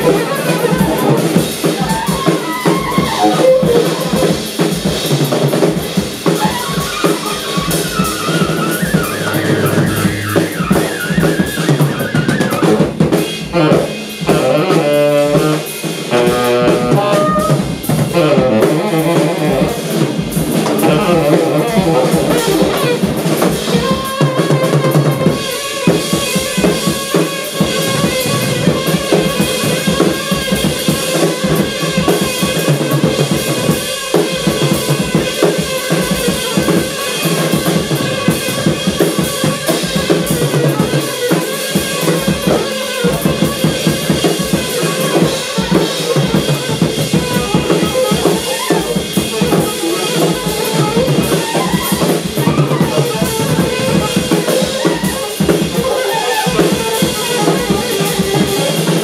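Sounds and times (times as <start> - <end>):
saxophone held notes: 0.0 - 5.1, 6.2 - 59.0
busy drumming: 0.0 - 59.0
live band playing: 0.0 - 59.0.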